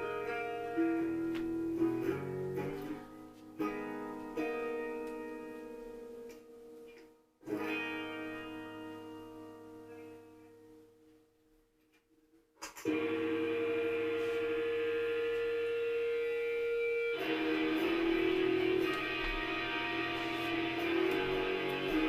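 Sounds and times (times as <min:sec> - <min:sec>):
electric guitar notes and chords: 0:00.0 - 0:11.0, 0:12.6 - 0:22.0.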